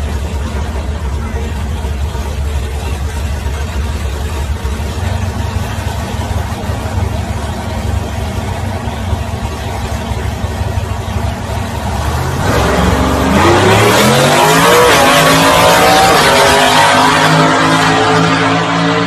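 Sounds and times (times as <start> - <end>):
car engines idling: 0.0 - 19.0.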